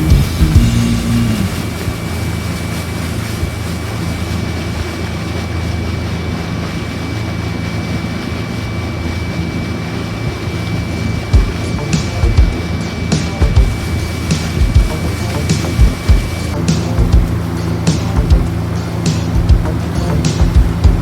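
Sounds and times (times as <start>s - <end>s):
motorboat engine humming: 0.0s - 21.0s
wind and water rushing: 0.0s - 21.0s.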